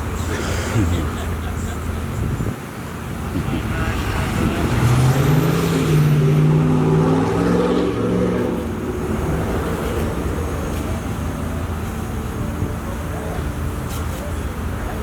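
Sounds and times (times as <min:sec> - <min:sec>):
low traffic rumble: 0:00.0 - 0:15.0
vehicle engine running: 0:00.0 - 0:15.0.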